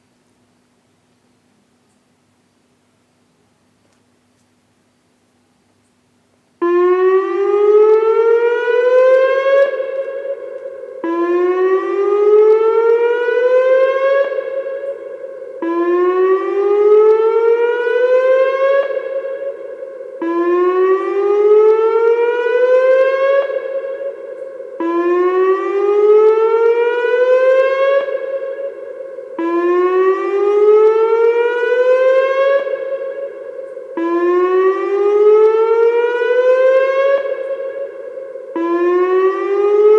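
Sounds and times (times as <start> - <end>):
warning siren whoop tone: 6.6 - 39.9.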